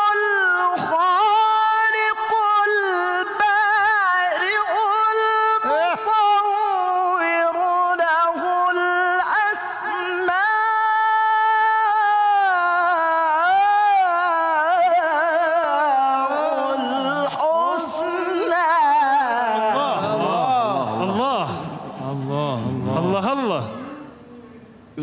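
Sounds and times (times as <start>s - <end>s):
man chanting melodic recitation: 0.0s - 24.2s.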